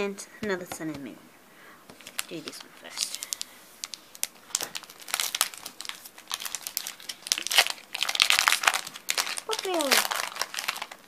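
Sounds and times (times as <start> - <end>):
foil wrapper crinkling: 1.9 - 11.0.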